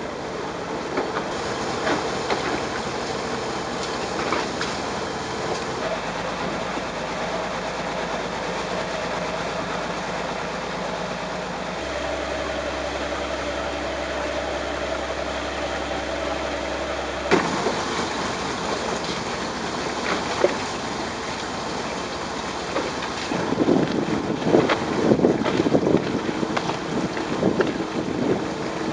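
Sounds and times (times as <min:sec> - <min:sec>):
boat engine humming: 0:00.0 - 0:28.9
wind and water hiss: 0:00.0 - 0:28.9.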